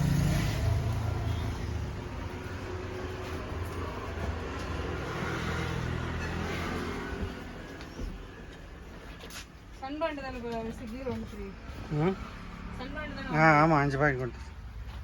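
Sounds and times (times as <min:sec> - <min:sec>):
street noise: 0:00.0 - 0:15.0
vehicle engine rumbling: 0:00.0 - 0:15.0.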